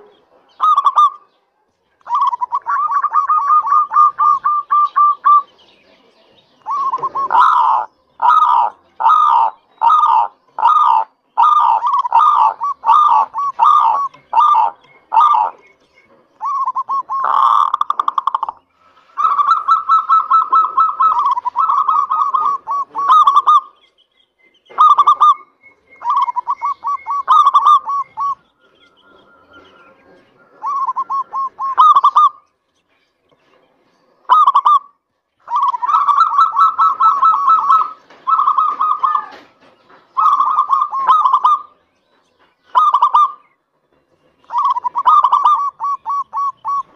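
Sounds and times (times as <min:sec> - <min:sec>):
dove cooing: 0:00.0 - 0:01.3, 0:02.0 - 0:05.6, 0:06.6 - 0:15.7, 0:16.4 - 0:23.8, 0:24.7 - 0:32.4, 0:34.3 - 0:41.8, 0:42.7 - 0:43.4, 0:44.4 - 0:46.9.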